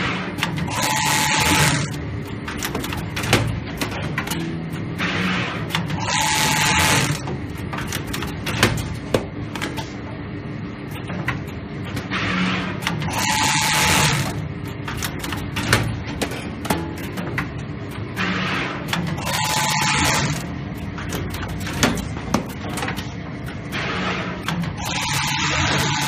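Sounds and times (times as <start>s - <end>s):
machine mechanism clicks and knocks: 0.0s - 10.0s, 10.9s - 26.0s
binding machine whirring: 0.0s - 26.0s.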